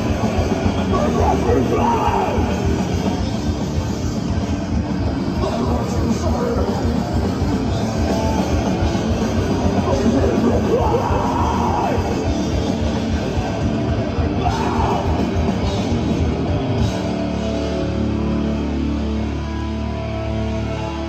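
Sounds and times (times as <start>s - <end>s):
fast dense drumming: 0.0s - 17.6s
distorted guitars: 0.0s - 21.0s.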